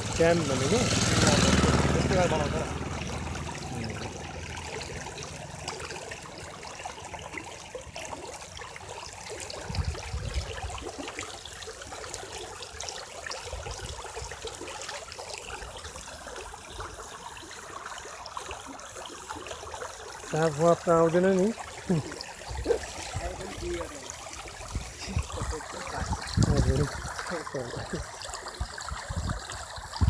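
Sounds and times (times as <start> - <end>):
water rushing in a channel: 0.0 - 30.0.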